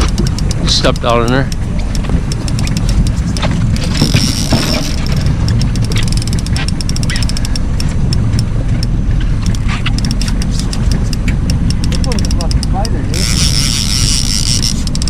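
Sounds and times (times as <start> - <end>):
boat motor rumbling: 0.0 - 15.0
high whir: 0.0 - 15.0
sharp clicks: 0.0 - 15.0.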